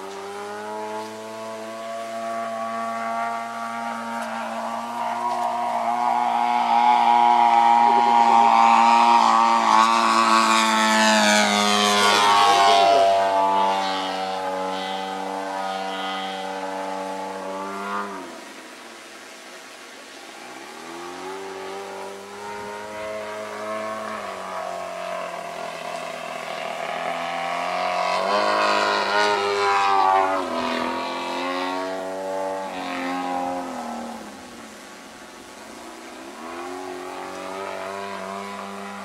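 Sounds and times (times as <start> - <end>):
model plane engine flying past: 0.0 - 19.2, 20.2 - 39.0.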